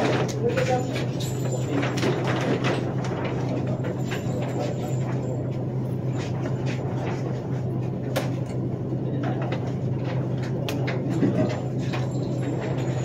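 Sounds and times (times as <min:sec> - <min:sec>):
ventilation system hum: 0:00.0 - 0:13.0.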